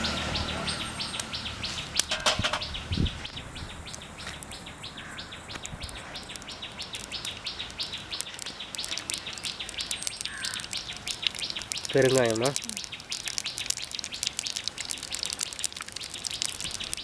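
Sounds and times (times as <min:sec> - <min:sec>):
bird chirping rapidly: 0:00.0 - 0:17.0
mustard seeds spluttering in oil: 0:00.0 - 0:17.0.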